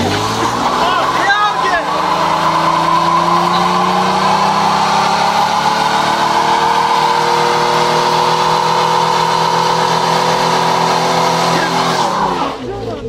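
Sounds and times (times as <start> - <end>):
car engine revving high: 0.0 - 13.0
tyres spinning on asphalt: 0.0 - 13.0.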